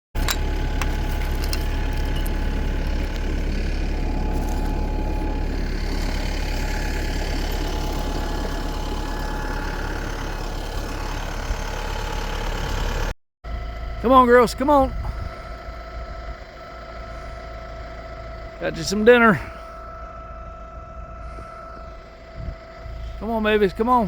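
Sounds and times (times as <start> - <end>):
vehicle engine idling: 0.2 - 24.0.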